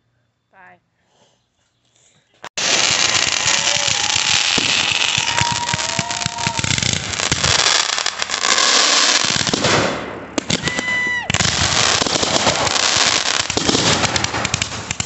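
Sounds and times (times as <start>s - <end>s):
fireworks bangs and crackling: 2.6s - 15.0s
whistling fireworks: 2.6s - 15.0s.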